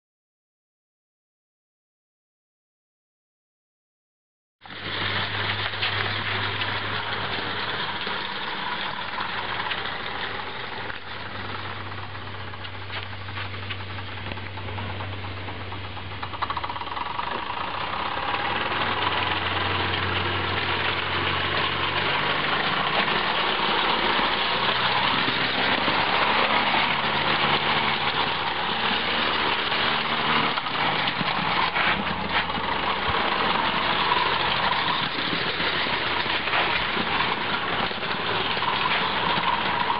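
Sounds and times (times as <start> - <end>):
wheels running on rails: 4.6 - 39.9
toy steam engine hissing and whirring: 4.7 - 14.2, 16.2 - 39.9.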